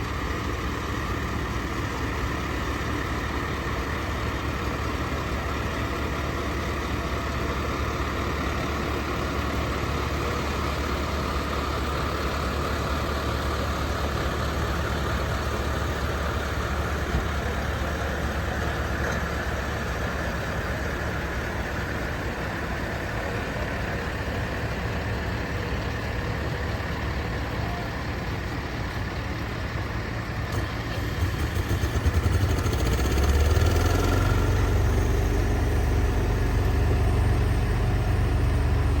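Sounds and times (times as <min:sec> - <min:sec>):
deep engine rumble: 0:00.0 - 0:39.0
vehicle engine idling: 0:00.0 - 0:39.0.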